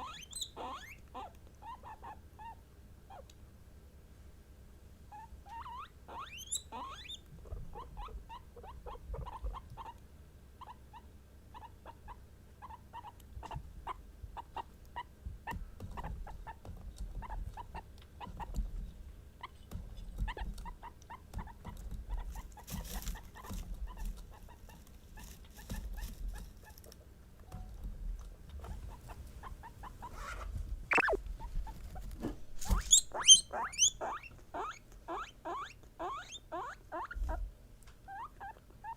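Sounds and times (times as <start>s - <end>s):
guinea pigs squeaking: 0.0s - 3.3s, 5.1s - 10.0s, 10.6s - 18.7s, 20.2s - 27.0s, 28.4s - 37.4s, 38.0s - 38.9s.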